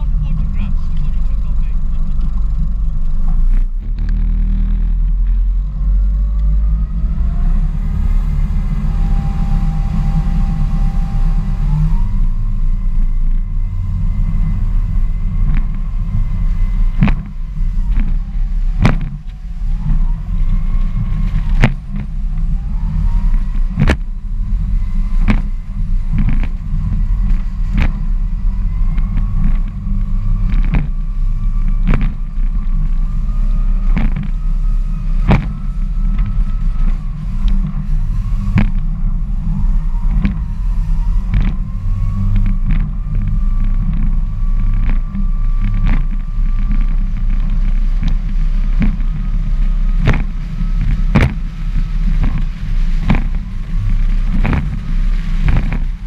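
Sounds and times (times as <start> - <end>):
boat engine rumble: 0.0 - 56.0
wind buffeting microphone: 0.0 - 56.0.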